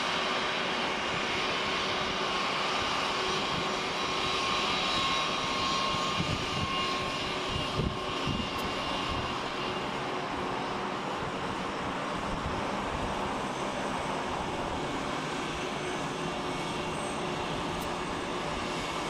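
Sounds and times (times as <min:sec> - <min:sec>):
jet engines rushing and whining: 0:00.0 - 0:19.0.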